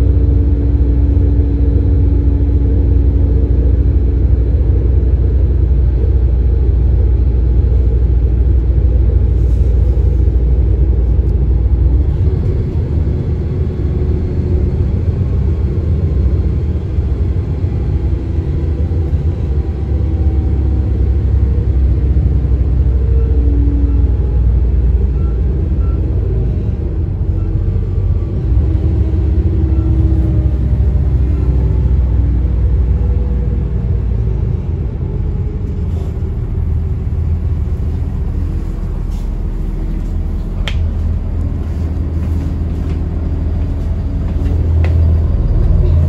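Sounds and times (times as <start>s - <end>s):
diesel railcar engine idling: 0.0s - 46.0s.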